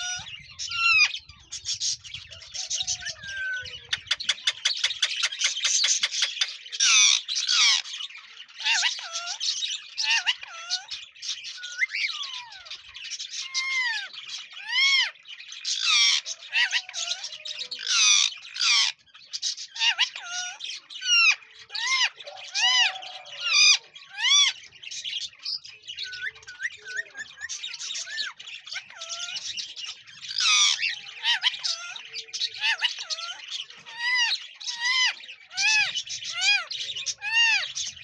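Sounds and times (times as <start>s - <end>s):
parakeet screeching and whistling: 0.0s - 7.9s, 8.6s - 38.0s.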